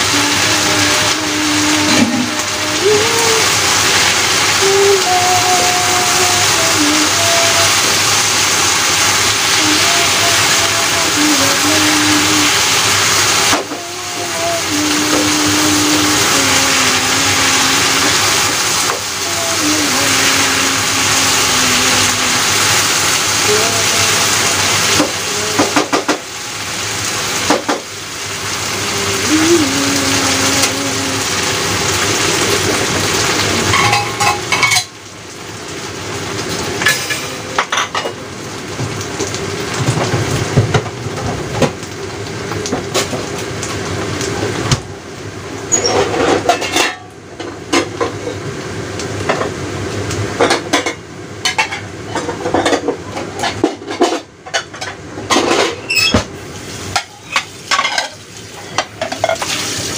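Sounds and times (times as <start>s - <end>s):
meat sizzling in a frying pan: 0.0s - 29.4s, 31.2s - 59.9s.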